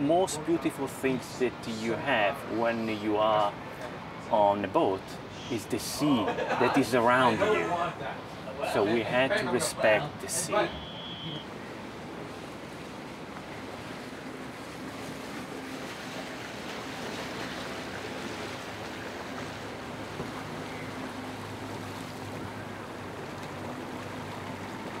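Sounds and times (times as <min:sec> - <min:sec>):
water lapping against hulls: 0:00.0 - 0:25.0.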